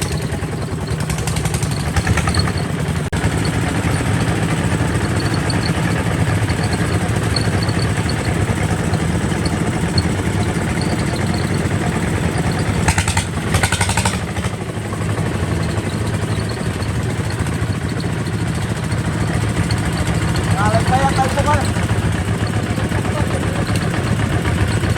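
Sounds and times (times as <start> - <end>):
diesel engine running: 0.0 - 24.9
fast rattle: 0.0 - 24.9.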